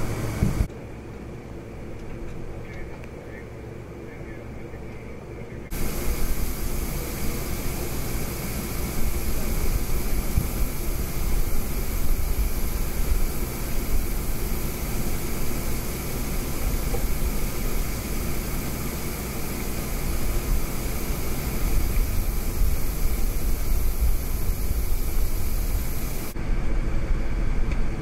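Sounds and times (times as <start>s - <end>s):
constant hiss: 0.0s - 28.0s.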